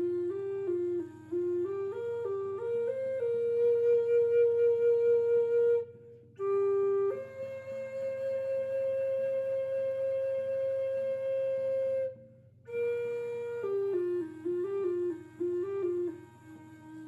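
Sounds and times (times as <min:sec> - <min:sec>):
flute playing long held notes: 0:00.0 - 0:17.0.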